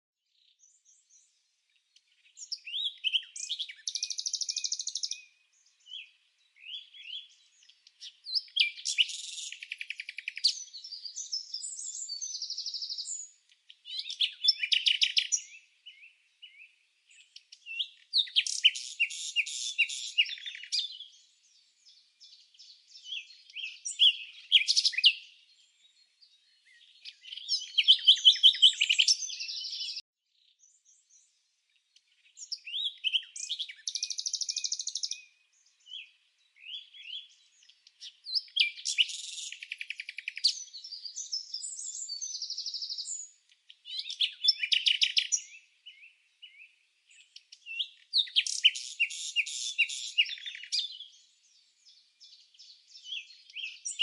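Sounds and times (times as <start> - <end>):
songbird chirping and trilling: 0.2 - 54.0.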